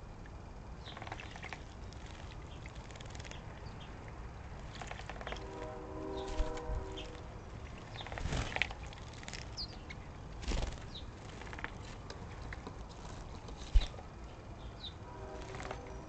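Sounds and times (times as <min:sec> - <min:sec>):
birds splashing and fluttering: 0:00.9 - 0:14.0, 0:15.4 - 0:15.9.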